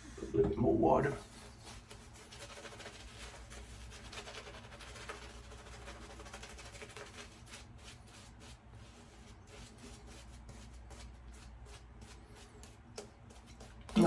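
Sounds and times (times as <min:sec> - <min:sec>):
shaving brush scrubbing lather: 0:01.2 - 0:14.0.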